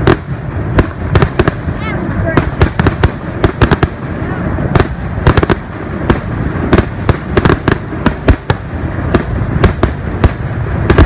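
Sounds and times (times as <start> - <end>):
fireworks bangs and cracks: 0.0 - 11.0
low rumble of booms: 0.0 - 11.0.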